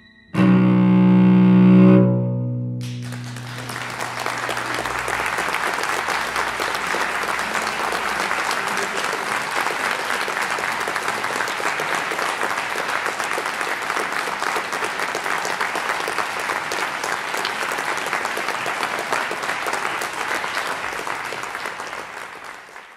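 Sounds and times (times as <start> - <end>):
audience applauding: 2.8 - 22.9.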